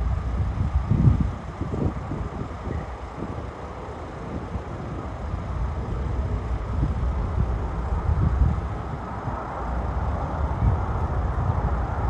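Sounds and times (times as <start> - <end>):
jet airliner rumble: 0.0 - 12.0
wind buffeting microphone: 0.0 - 12.0.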